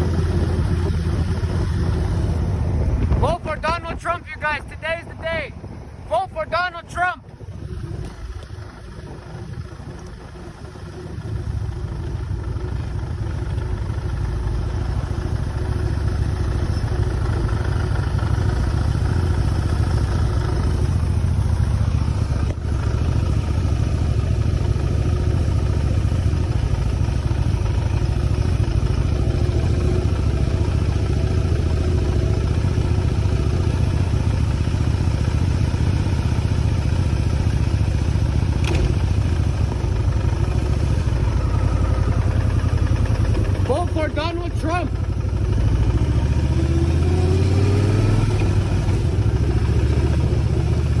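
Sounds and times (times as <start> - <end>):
motorcycle engine rumbling: 0.0 - 51.0.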